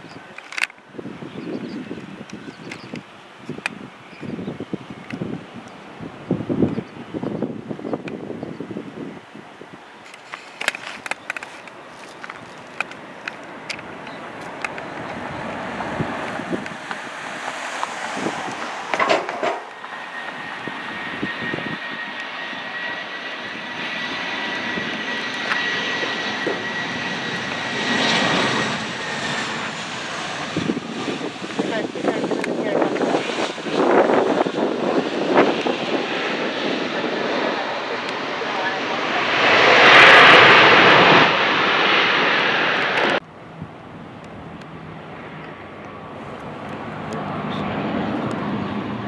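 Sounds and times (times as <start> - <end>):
airplane engines whining: 0.0 - 49.0.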